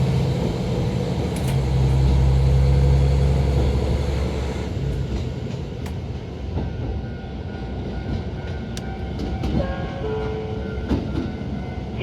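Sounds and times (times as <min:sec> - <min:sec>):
rail clicks: 0:00.0 - 0:11.6
train diesel engine rumble: 0:00.0 - 0:12.0.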